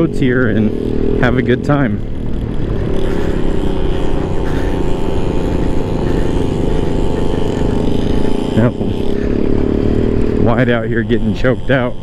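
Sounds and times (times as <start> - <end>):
scooter engine running: 0.0 - 12.0
wind and road noise: 0.0 - 12.0.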